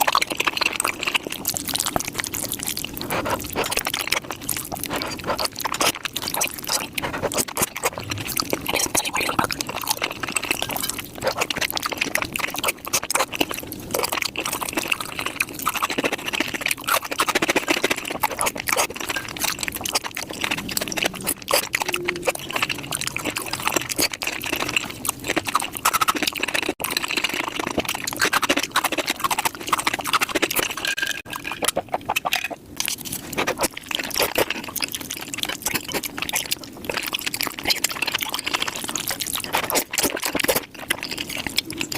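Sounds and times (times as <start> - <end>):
slurping and chewing noodles: 0.0 - 41.9.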